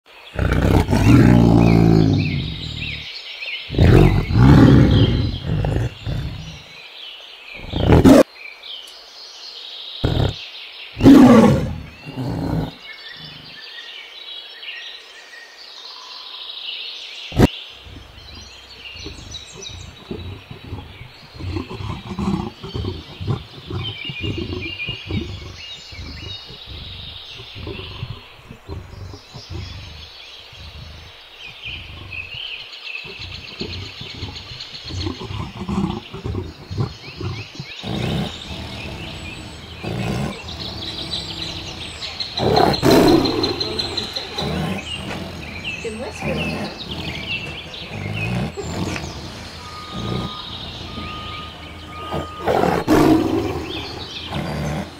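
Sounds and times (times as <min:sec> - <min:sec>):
birds chirping: 0:00.0 - 0:54.9
tiger growling: 0:00.2 - 0:06.8, 0:07.5 - 0:08.3, 0:10.0 - 0:10.4, 0:11.0 - 0:13.7, 0:17.3 - 0:54.9.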